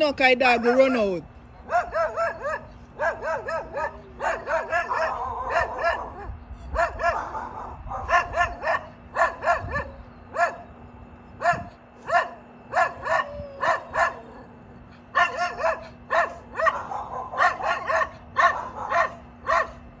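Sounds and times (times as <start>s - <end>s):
dog barking: 1.6s - 10.7s, 11.4s - 14.5s, 15.1s - 19.8s.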